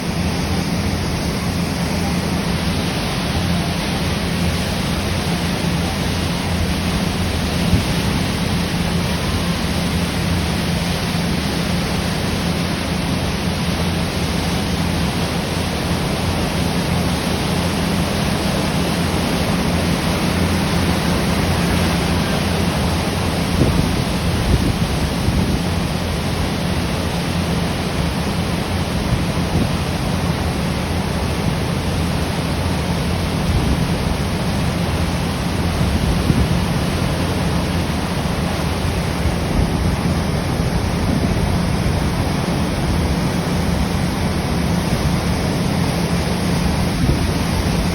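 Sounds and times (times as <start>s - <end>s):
ferry engine humming: 0.0s - 47.9s
wind and water rushing: 0.0s - 47.9s.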